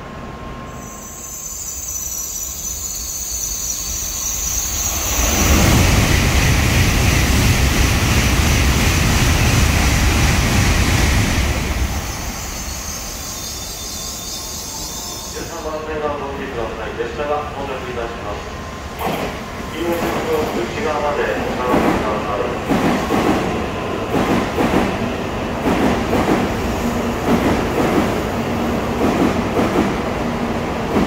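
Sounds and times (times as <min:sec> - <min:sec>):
train rail noise: 0:00.0 - 0:31.0.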